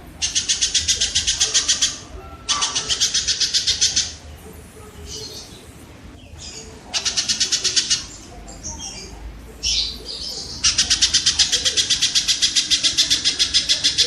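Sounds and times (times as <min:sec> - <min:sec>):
kingfisher rattling trills: 0:00.0 - 0:04.4, 0:06.3 - 0:14.0.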